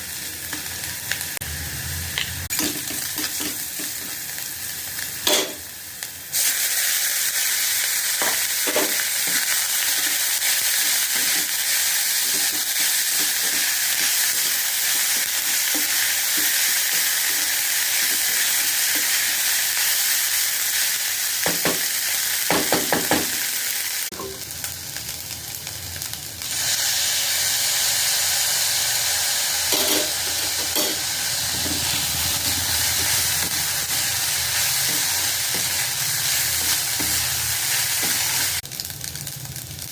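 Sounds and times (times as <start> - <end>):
rice sizzling in a frying pan: 0.0 - 39.9.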